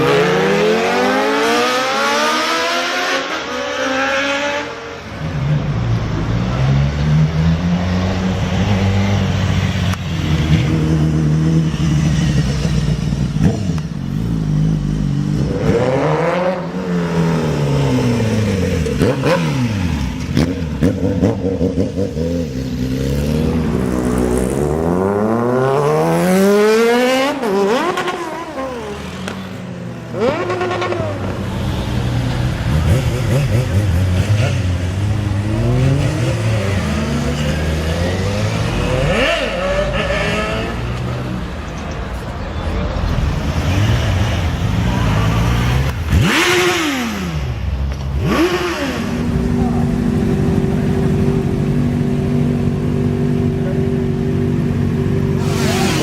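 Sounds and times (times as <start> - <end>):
motorcycle engine revving: 6.7 - 41.6, 43.0 - 56.0.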